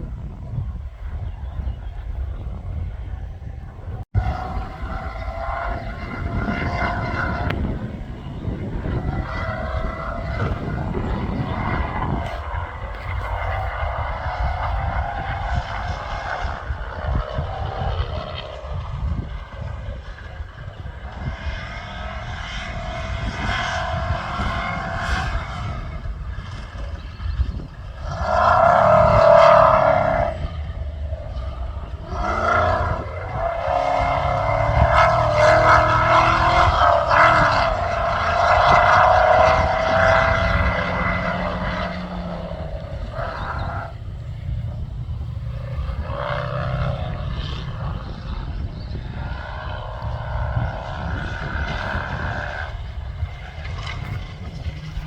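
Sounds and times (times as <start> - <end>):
low rumble: 0.0 - 55.0
racing car engine revving: 3.0 - 55.0.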